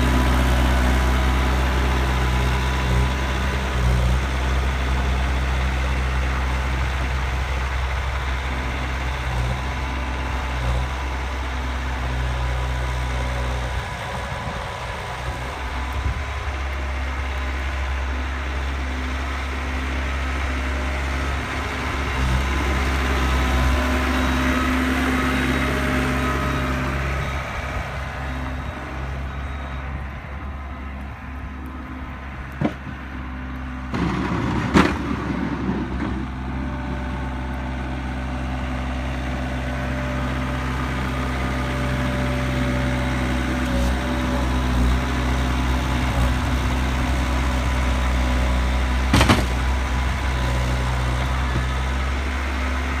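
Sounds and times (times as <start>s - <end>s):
diesel loader engine running: 0.0s - 53.0s.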